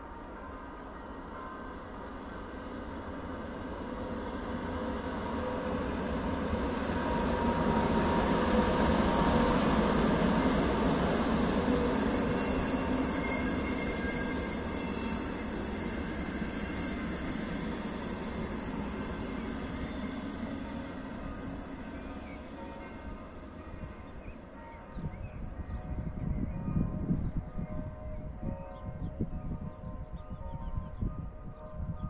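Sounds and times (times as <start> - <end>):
train passing: 0.0 - 28.5.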